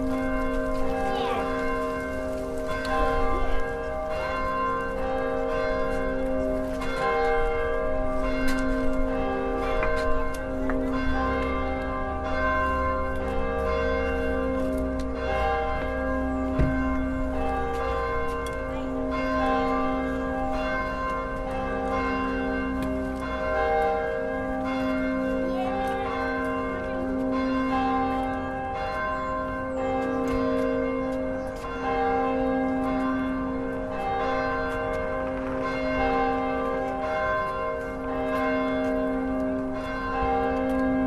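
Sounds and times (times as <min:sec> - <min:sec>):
church bells pealing: 0:00.0 - 0:41.0.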